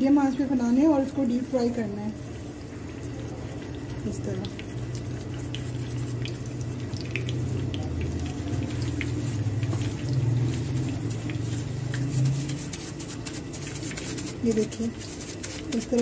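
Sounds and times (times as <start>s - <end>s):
low steady hum: 0.0s - 16.0s
patty sizzling in hot oil: 0.4s - 16.0s.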